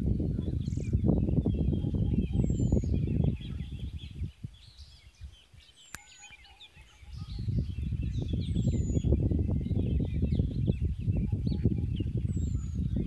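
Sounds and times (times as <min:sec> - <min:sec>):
small birds chirping: 0:00.0 - 0:13.0
wind rumbling on microphone: 0:00.0 - 0:13.0.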